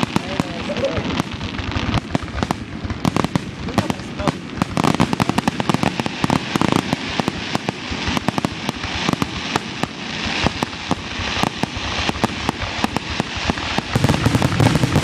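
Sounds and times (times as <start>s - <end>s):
fireworks bursting: 0.0s - 15.0s
fireworks crackling: 0.0s - 15.0s.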